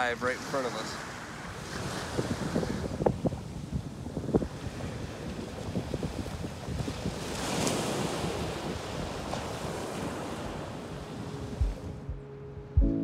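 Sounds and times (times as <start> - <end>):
surf washing onto beach: 0.0 - 12.1
wind buffeting microphone: 0.0 - 13.0.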